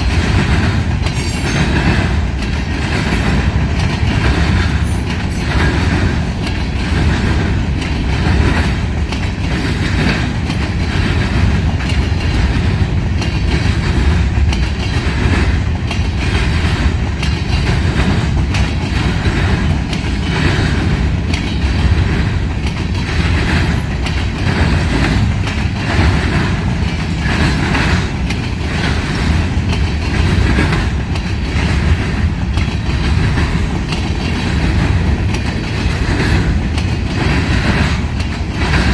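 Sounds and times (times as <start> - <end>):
freight train rumbling: 0.0 - 38.9
wheels clacking over rail joints: 0.0 - 38.9.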